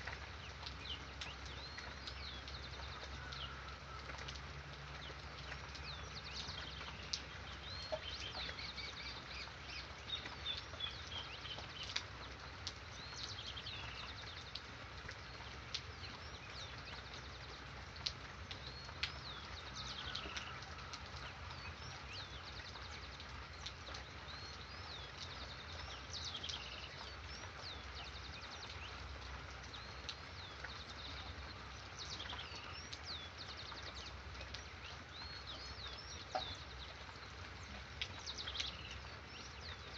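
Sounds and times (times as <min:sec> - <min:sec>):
birds singing and calling: 0:00.0 - 0:39.9.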